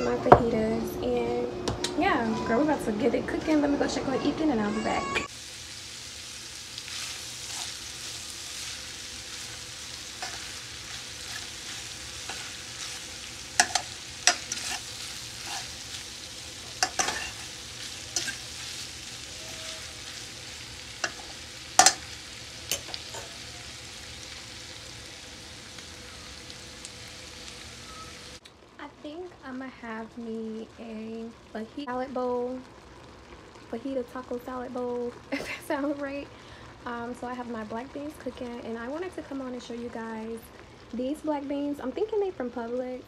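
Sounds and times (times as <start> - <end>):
chicken and peppers sizzling: 0.0 - 43.0.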